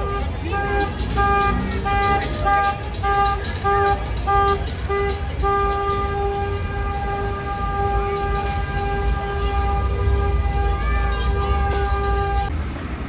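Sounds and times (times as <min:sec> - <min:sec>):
horn blasts: 0:00.0 - 0:12.5
street traffic rumble: 0:00.0 - 0:13.0.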